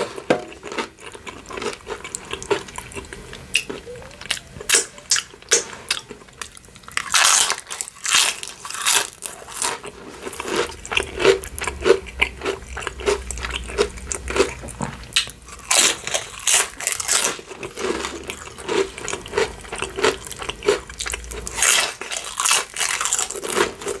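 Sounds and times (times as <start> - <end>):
crunchy chips being chewed: 0.0 - 24.0.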